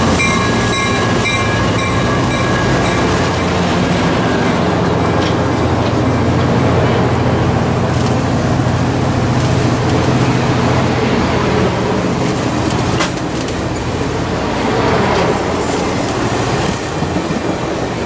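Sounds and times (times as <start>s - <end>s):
passenger train rolling past: 0.0s - 18.0s.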